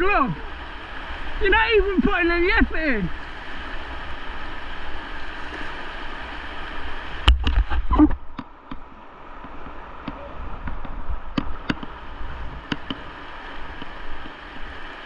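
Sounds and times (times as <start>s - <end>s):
whitewater rushing: 0.0s - 15.0s.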